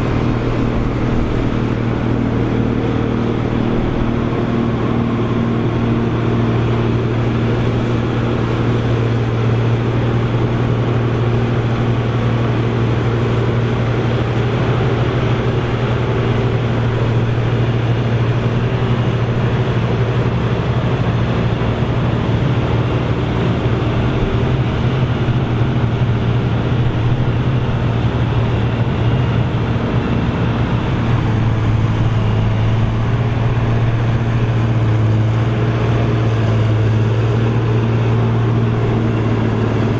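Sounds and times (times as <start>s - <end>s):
deep engine drone under load: 0.0s - 39.9s.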